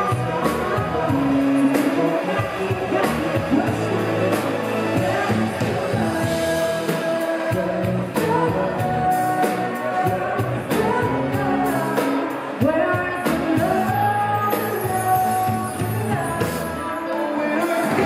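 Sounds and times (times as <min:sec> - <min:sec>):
drums: 0:00.0 - 0:18.0
electric guitar: 0:00.0 - 0:18.0
people singing: 0:00.0 - 0:18.0.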